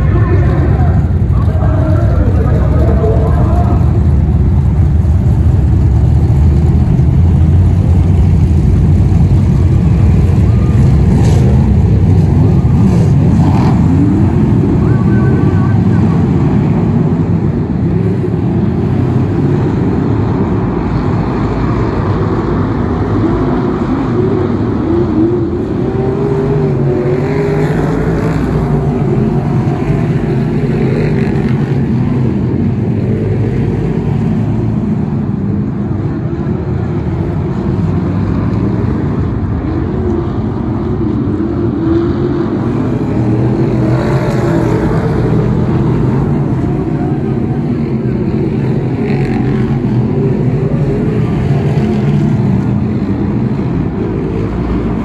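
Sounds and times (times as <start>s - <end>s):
racing car engines droning: 0.0s - 55.0s.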